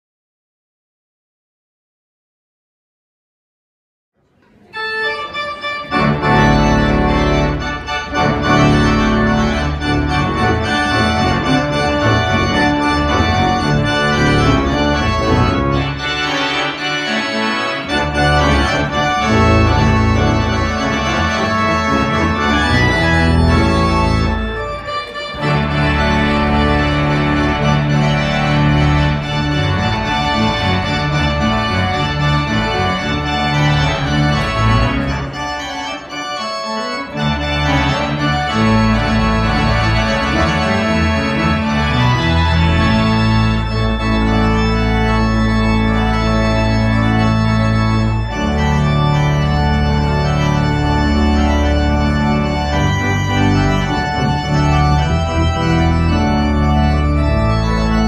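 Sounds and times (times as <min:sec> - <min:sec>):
pipe organ fanfare: 0:04.7 - 0:58.0.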